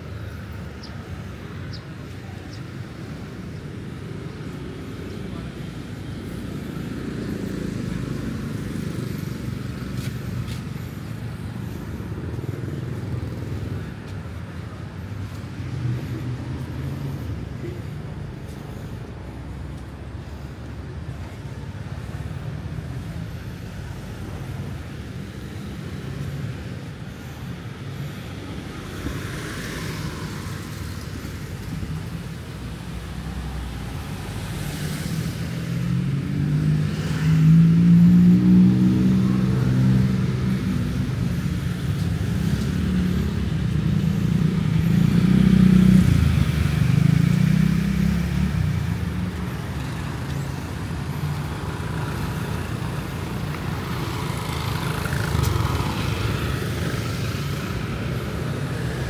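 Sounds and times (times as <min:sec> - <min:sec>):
traffic rumble: 0:00.0 - 0:59.0
vehicles passing close by: 0:00.0 - 0:59.0.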